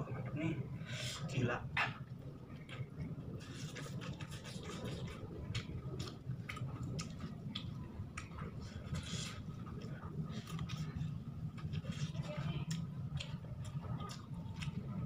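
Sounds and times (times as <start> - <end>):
steady low hum: 0.0 - 15.0
wet chewing and mouth smacks: 1.8 - 15.0.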